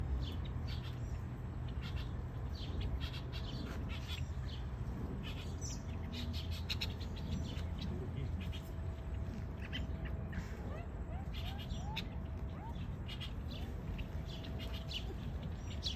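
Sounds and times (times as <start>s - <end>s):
birds chirping: 0.0s - 15.9s
steady low rumble: 0.0s - 15.9s.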